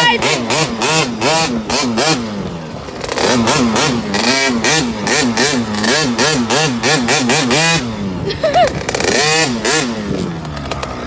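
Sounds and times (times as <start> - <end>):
two-stroke dirt bike engine revving: 0.0 - 11.0.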